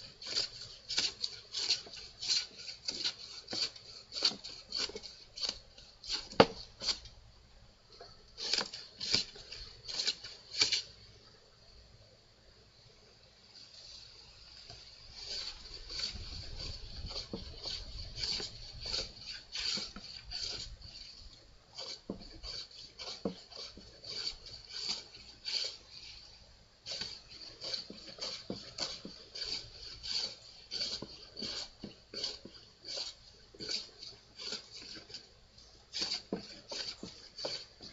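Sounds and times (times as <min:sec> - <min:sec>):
hand plane shaving wood: 0:00.0 - 0:07.1, 0:08.4 - 0:10.9, 0:15.1 - 0:37.9.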